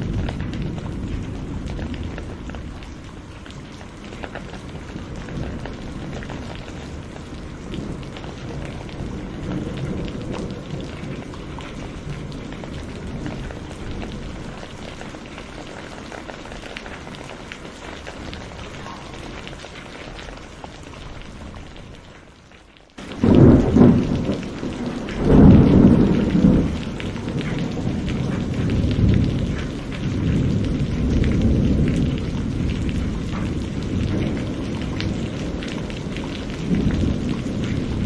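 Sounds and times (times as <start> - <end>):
distant thunder rumbling: 0.0 - 22.0, 23.0 - 38.0
steady rain: 0.0 - 38.0.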